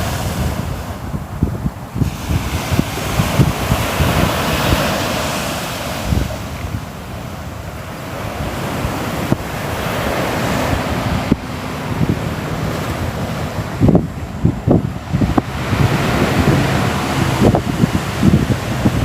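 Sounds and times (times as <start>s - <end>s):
ocean waves breaking: 0.0s - 19.0s
wind buffeting microphone: 0.0s - 19.0s.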